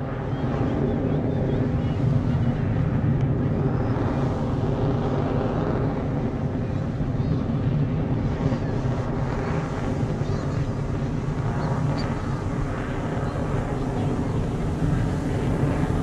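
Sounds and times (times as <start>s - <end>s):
fighter jet engine rumble: 0.0s - 16.0s.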